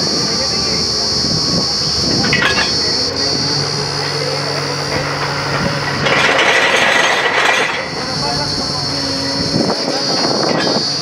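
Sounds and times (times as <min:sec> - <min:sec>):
drilling rig running with hiss: 0:00.0 - 0:11.0
loud rush of noise: 0:00.0 - 0:11.0.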